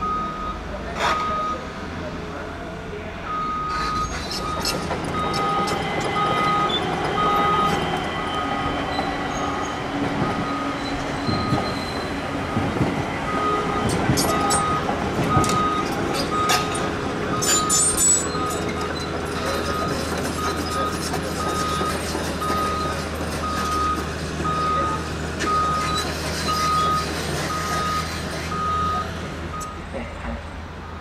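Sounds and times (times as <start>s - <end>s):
repeated warning beep: 0.0s - 1.6s, 3.3s - 29.8s
electric train running: 4.6s - 30.0s.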